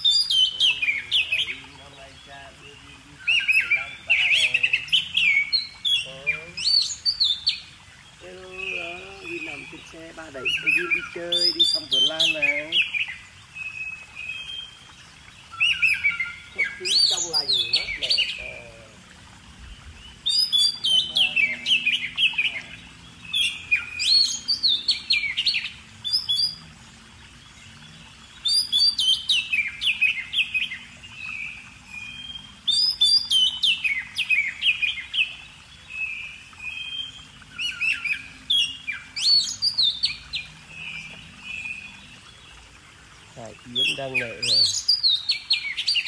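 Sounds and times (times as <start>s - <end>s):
songbird singing: 0.0s - 46.0s.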